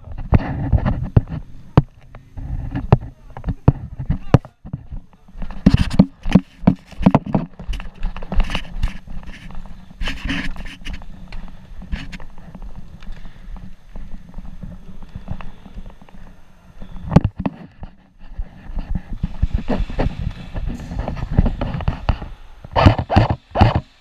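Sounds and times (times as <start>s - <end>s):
footsteps and knocks: 0.0s - 24.0s.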